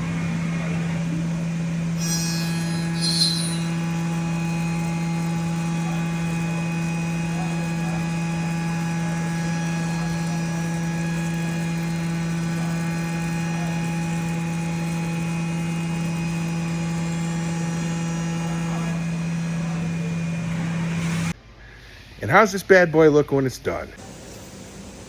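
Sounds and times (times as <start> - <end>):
milling machine humming: 0.0 - 21.3.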